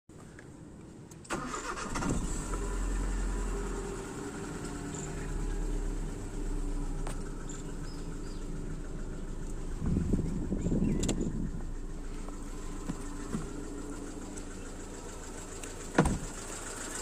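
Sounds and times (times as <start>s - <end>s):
car engine starting and idling: 0.6s - 17.0s
engine tapping: 2.6s - 17.0s.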